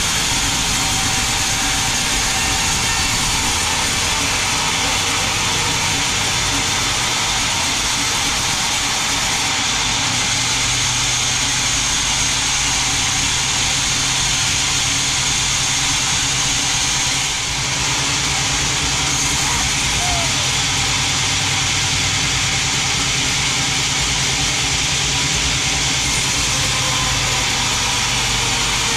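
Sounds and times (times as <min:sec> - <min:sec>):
saw high hiss: 0:00.0 - 0:28.9
sawmill machine hum: 0:00.0 - 0:28.9.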